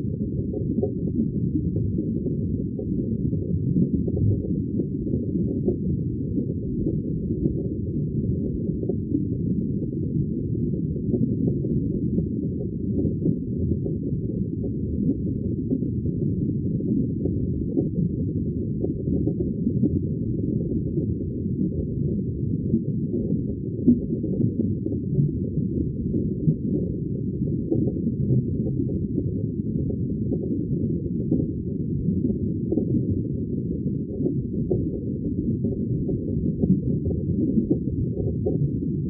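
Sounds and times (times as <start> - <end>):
muffled underwater rumble: 0.0 - 39.0.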